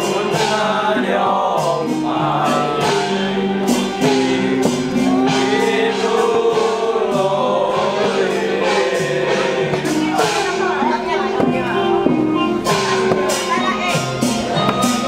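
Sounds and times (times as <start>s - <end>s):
choir-like voices holding notes: 0.0s - 15.0s.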